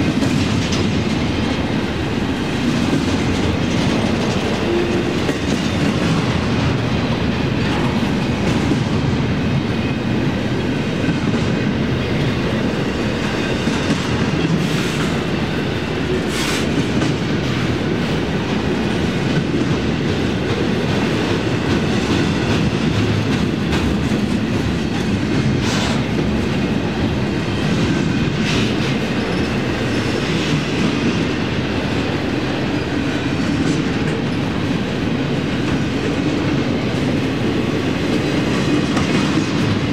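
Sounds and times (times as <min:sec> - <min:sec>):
freight train wheels rumbling: 0:00.0 - 0:39.9
rhythmic clickety-clack of wheels: 0:00.0 - 0:39.9.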